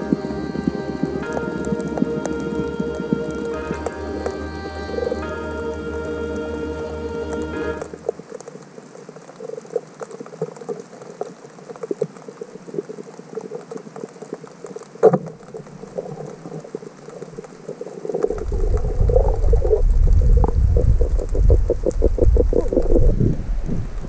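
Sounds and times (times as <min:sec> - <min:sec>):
underwater crackle of clicks: 0:00.0 - 0:05.2, 0:07.1 - 0:24.0
faint hiss: 0:00.0 - 0:24.0.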